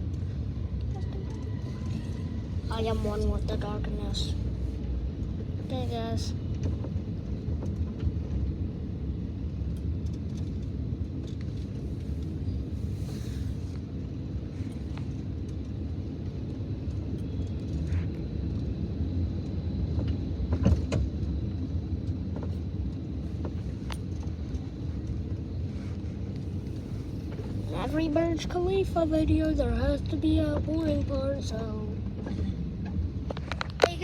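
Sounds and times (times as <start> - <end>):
car cabin rumble while driving: 0.0 - 34.0.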